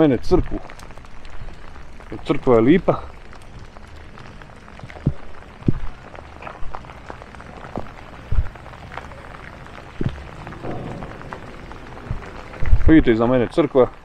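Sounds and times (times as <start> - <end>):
heavy rain falling: 0.0 - 14.0
raindrops thumping on jacket sleeve: 0.0 - 14.0.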